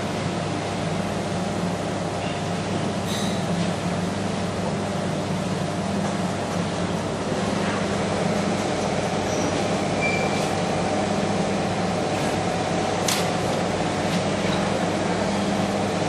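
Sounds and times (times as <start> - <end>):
machinery hum and rumble: 0.0 - 16.0.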